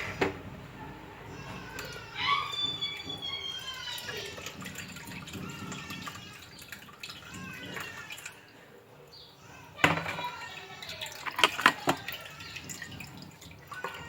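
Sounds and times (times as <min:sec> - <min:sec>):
liquid trickling through a strainer: 0:01.3 - 0:14.0.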